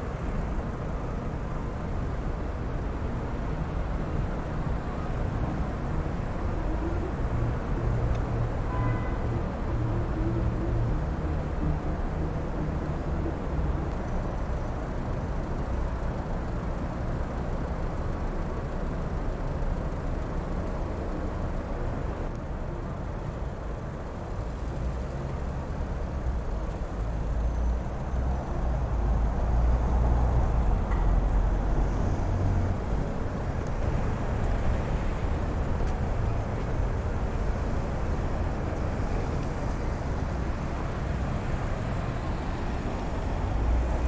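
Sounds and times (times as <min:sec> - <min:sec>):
low rumble of passing traffic: 0:00.0 - 0:44.0.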